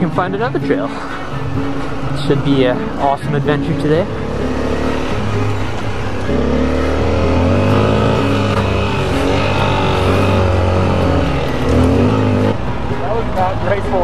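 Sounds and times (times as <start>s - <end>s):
motorcycle engine under load: 1.5s - 13.0s.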